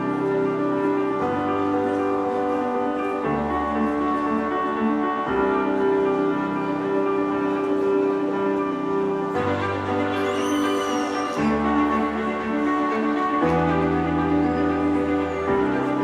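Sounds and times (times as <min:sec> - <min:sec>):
slow instrumental music: 0:00.0 - 0:16.0.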